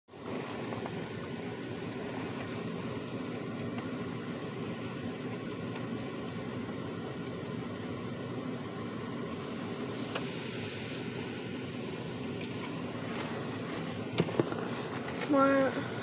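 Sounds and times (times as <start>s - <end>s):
muffled car wash rushing: 0.1s - 16.0s.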